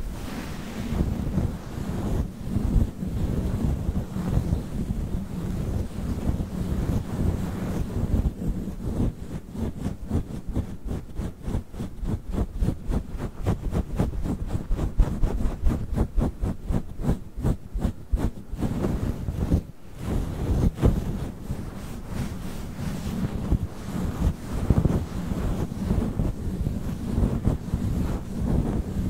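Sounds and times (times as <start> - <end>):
microphone windscreen rubbing: 0.0 - 29.0.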